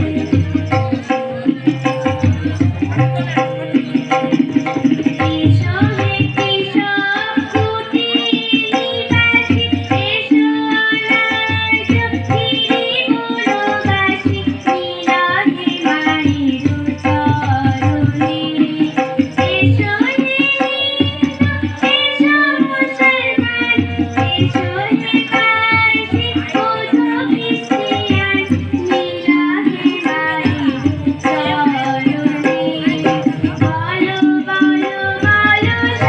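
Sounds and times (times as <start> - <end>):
tabla strokes: 0.0 - 36.0
woman singing: 0.0 - 36.0.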